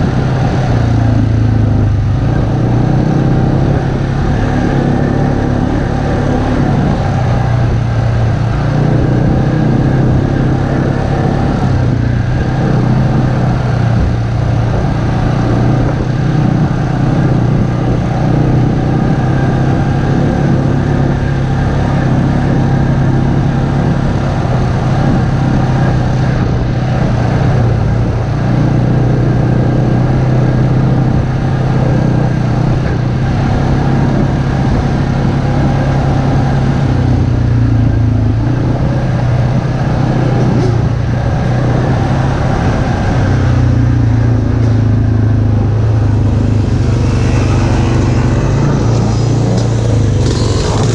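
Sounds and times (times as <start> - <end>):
atv engine running: 0.0 - 50.9
road noise: 0.0 - 50.9.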